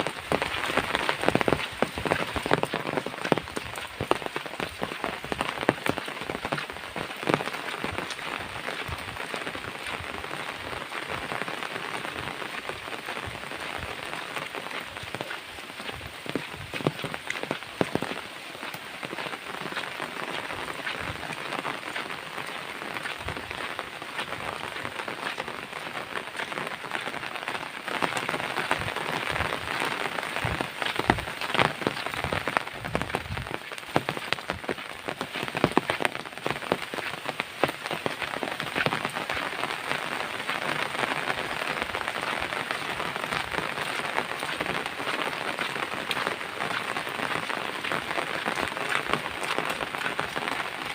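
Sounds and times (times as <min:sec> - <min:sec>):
steady rain with drop ticks: 0:00.0 - 0:50.9.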